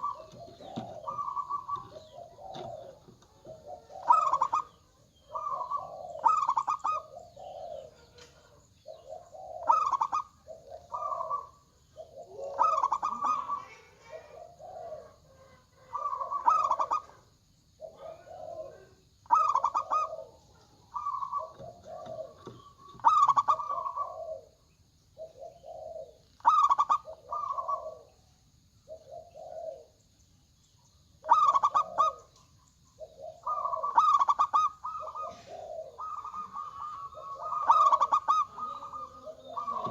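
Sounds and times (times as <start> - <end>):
doves cooing: 0.0 - 30.1, 31.2 - 39.9.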